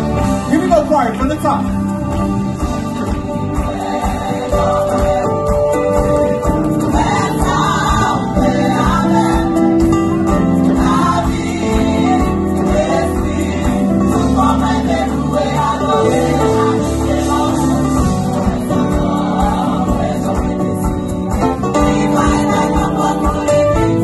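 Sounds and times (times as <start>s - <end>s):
choir singing: 1.8s - 24.0s.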